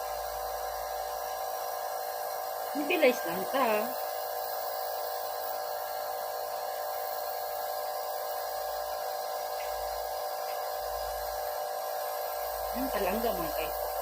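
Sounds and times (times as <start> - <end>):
nebulizer compressor humming: 0.0 - 14.0.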